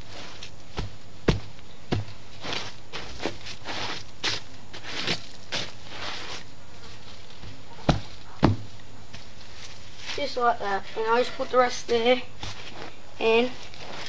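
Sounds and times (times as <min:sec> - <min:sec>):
shovel scraping damp soil: 0:00.0 - 0:01.1, 0:01.9 - 0:08.4, 0:09.2 - 0:14.0.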